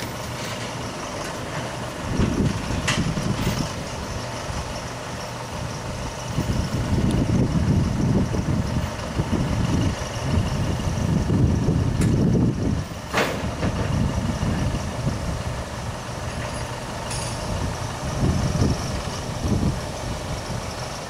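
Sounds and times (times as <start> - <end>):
backhoe diesel engine running: 0.0 - 21.0.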